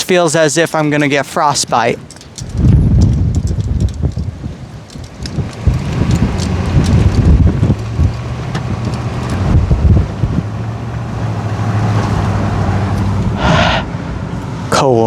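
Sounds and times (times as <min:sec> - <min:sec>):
wind buffeting microphone: 0:00.7 - 0:14.6
car road and engine hum: 0:00.8 - 0:15.0.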